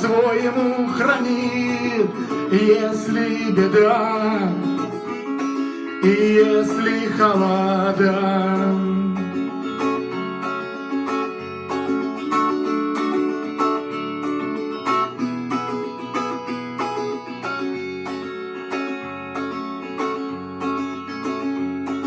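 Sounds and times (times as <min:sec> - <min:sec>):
guitar strumming chords: 0:00.0 - 0:22.0.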